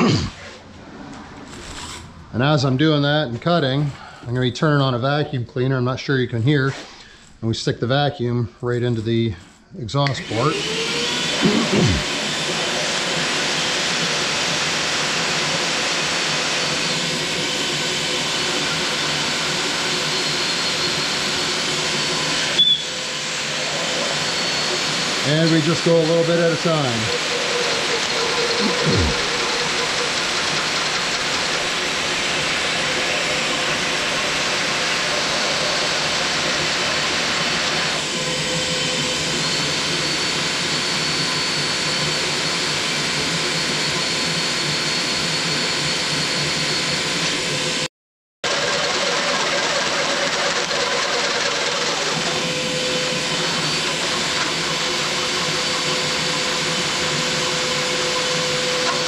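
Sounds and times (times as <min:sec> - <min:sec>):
vacuum cleaner running: 0:00.0 - 0:01.5, 0:10.0 - 0:59.0
cordless drill cutting metal: 0:10.1 - 0:47.8, 0:48.5 - 0:59.0.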